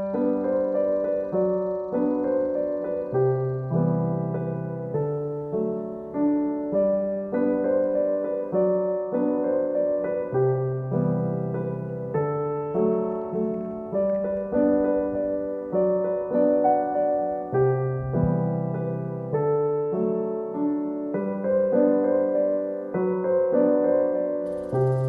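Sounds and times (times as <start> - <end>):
slow gentle piano piece: 0.0 - 25.0.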